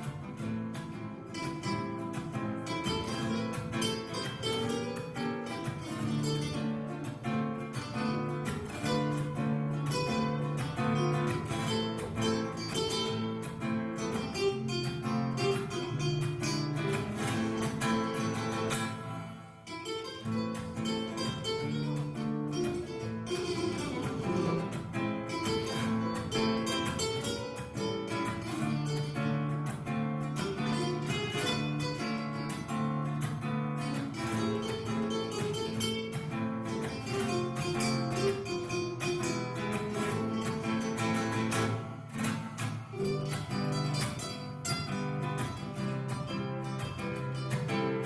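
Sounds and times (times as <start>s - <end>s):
acoustic guitar melody: 0.0s - 48.0s.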